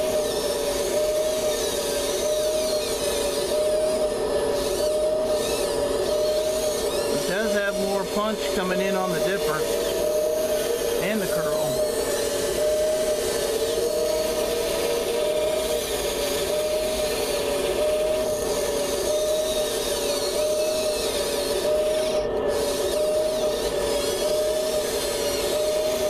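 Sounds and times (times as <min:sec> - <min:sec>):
electric motors whining: 0:00.0 - 0:26.0
rough mechanical noise: 0:00.0 - 0:26.0.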